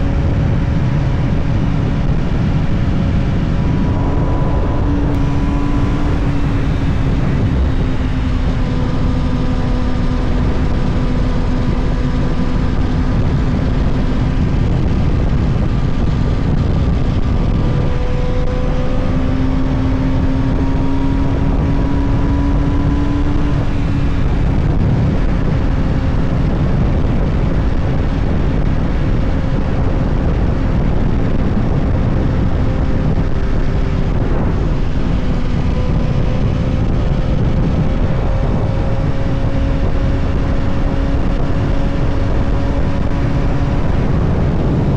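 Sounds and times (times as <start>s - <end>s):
vehicle engine cruising: 0.0s - 44.9s
wind and road noise: 0.0s - 44.9s.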